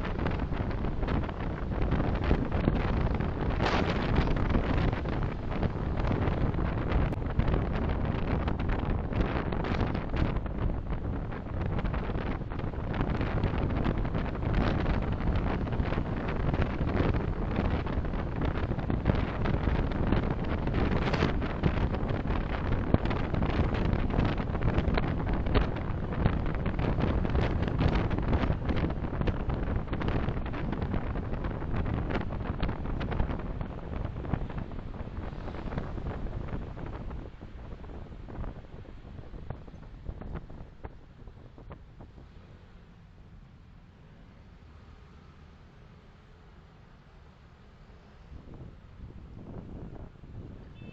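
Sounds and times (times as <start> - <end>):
car road and wind noise: 0.0 - 50.9.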